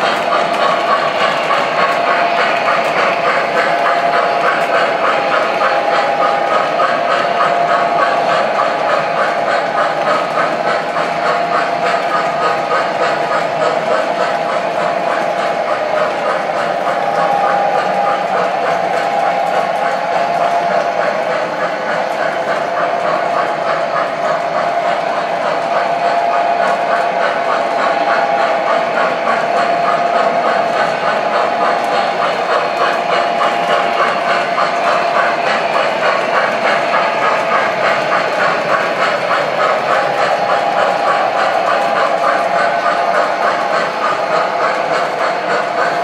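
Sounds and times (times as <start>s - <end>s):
model train motors whirring: 0.0s - 46.0s
wheels clattering over rails: 0.0s - 46.0s.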